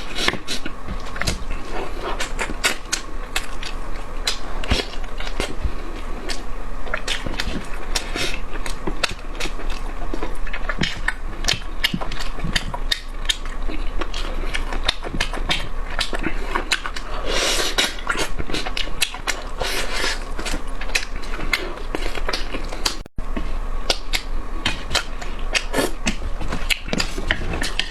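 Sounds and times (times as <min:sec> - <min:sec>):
person chewing and smacking: 0:00.0 - 0:27.9.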